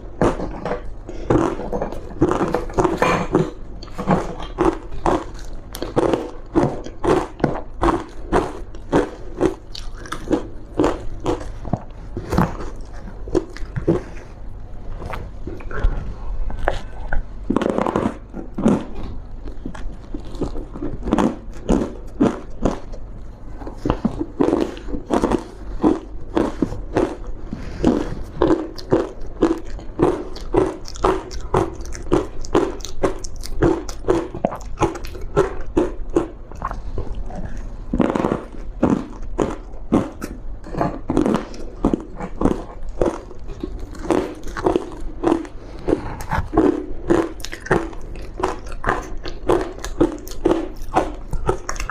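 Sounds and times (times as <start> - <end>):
ice being chewed crunching: 0.0 - 51.9.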